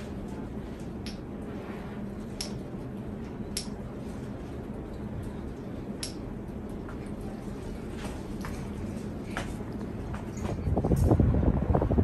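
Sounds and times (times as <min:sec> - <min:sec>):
ceiling fan motor humming: 0:00.0 - 0:12.0.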